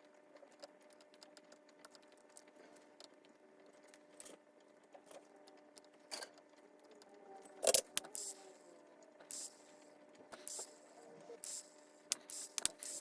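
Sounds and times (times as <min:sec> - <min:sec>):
faint steady hum: 0:00.0 - 0:13.0
small hard parts clicking: 0:00.0 - 0:13.0.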